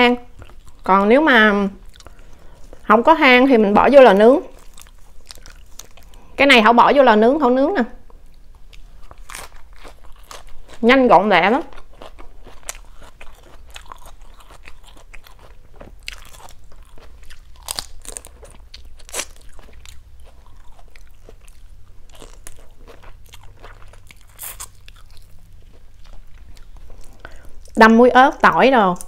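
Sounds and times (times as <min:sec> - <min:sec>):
crunching and chewing shrimp: 0:00.2 - 0:03.0, 0:04.0 - 0:06.4, 0:08.2 - 0:27.8.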